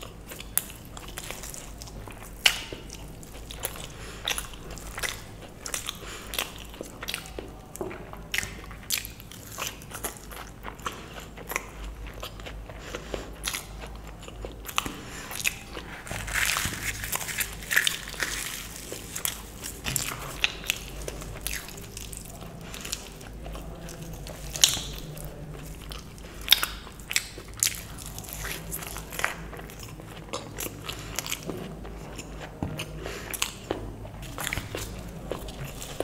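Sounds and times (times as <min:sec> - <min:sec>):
biting and chewing: 0:00.0 - 0:36.0.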